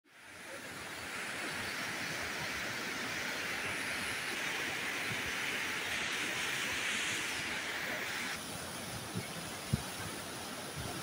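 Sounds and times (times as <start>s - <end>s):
floodwater rushing over boulders: 0.1s - 11.0s.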